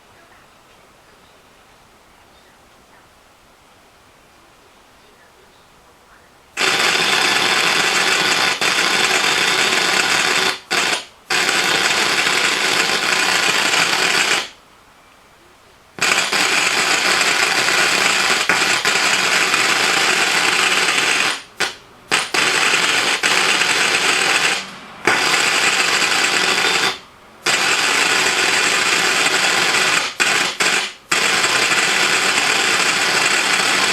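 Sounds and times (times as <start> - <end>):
loud hissing crackling noise: 0.0 - 33.9.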